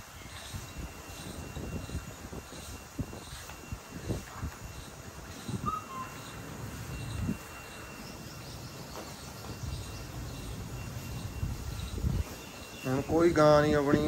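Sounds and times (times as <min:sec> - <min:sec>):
faint steady high whine: 0:00.0 - 0:14.0.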